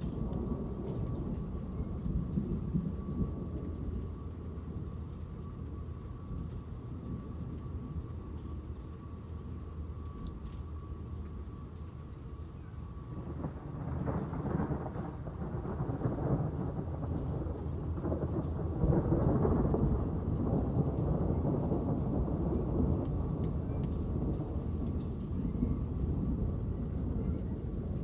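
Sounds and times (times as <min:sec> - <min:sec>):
rolling thunder: 0:00.0 - 0:08.2, 0:13.0 - 0:28.0
steady rain: 0:00.0 - 0:28.0.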